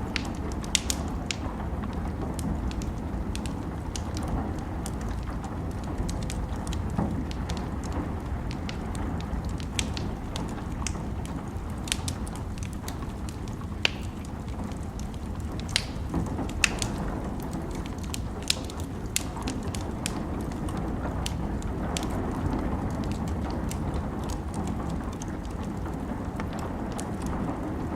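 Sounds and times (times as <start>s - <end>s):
fireplace crackling and popping: 0.0s - 27.9s
rain rumble: 0.0s - 27.9s.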